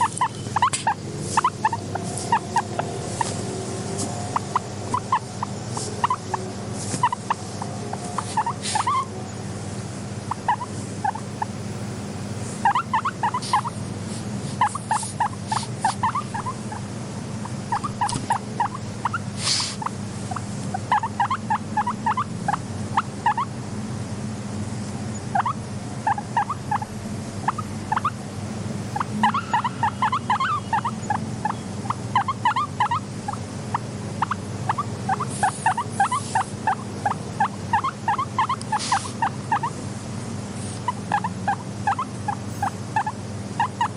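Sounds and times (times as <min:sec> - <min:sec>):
guinea pig purring: 0:00.0 - 0:09.1, 0:10.2 - 0:11.6, 0:12.5 - 0:23.6, 0:25.1 - 0:28.2, 0:28.9 - 0:43.9
steady low hum: 0:00.0 - 0:43.9.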